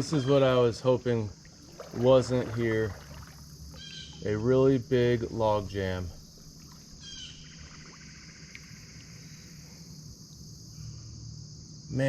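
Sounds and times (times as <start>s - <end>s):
crickets chirping: 0.0s - 12.0s
faint low rumble: 0.5s - 12.0s.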